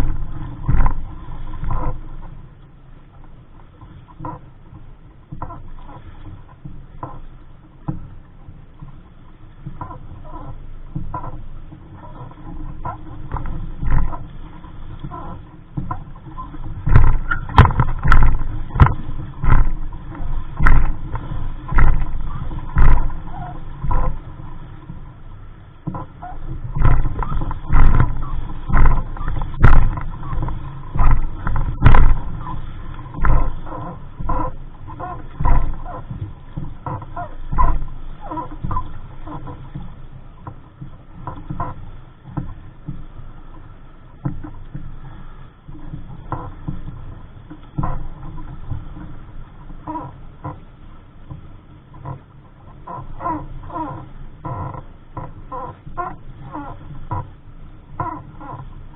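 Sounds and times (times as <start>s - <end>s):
boat slapping and knocking: 0.0s - 58.9s
wind rumbling on microphone: 0.0s - 58.9s.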